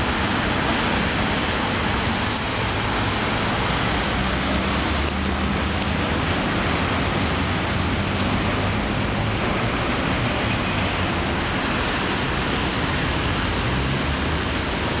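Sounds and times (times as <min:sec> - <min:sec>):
street traffic passing: 0:00.0 - 0:15.0.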